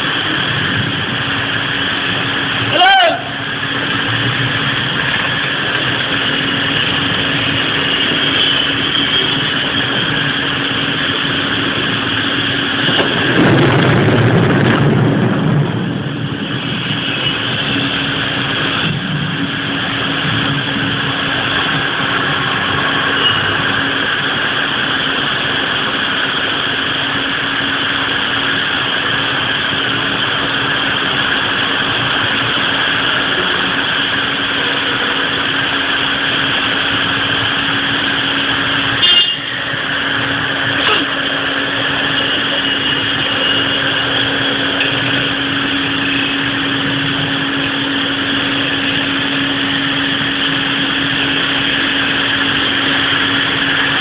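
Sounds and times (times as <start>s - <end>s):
heavy rain pouring: 0.0s - 54.0s
steady low hum: 0.0s - 54.0s.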